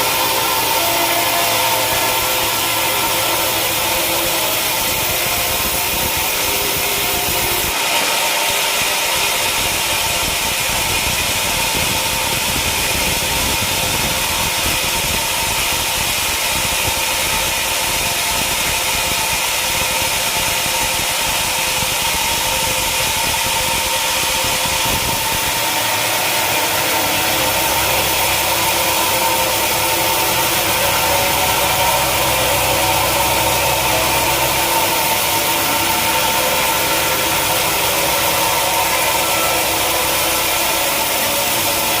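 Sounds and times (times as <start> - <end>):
sawmill machinery whining: 0.0 - 42.0.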